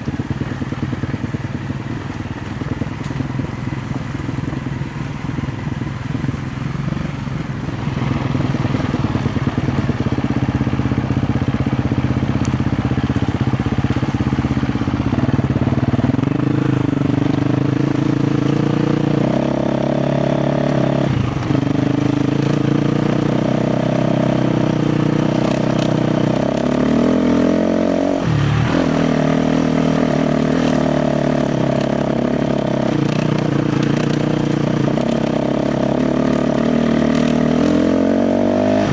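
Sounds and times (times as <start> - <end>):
motorcycle engine revving under load: 0.0 - 38.9.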